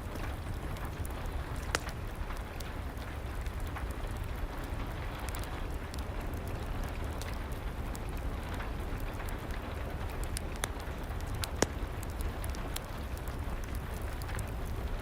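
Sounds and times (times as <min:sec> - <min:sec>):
fireplace crackling and popping: 0:00.0 - 0:15.0
steady rain: 0:00.0 - 0:15.0.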